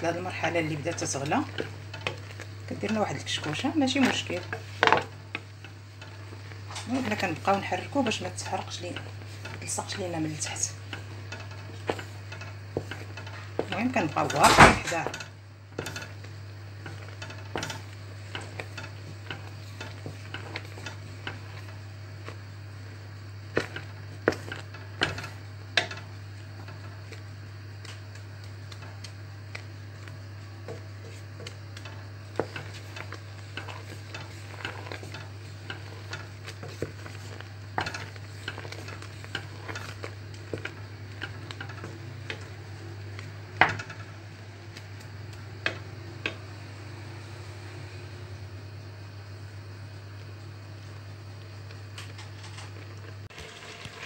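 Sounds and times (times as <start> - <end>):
spatula knocking and scraping pot: 0.0 - 46.6
steady low hum: 0.0 - 53.3
jam sizzling softly: 0.0 - 54.0.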